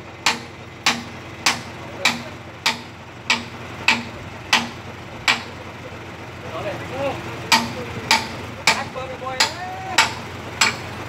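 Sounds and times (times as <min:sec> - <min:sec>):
hammer striking steel: 0:00.2 - 0:05.6, 0:07.5 - 0:11.0.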